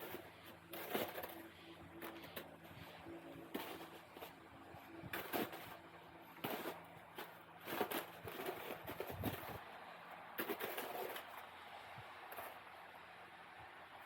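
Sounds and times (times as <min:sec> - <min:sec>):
snow crunching and scraping: 0:00.0 - 0:14.0.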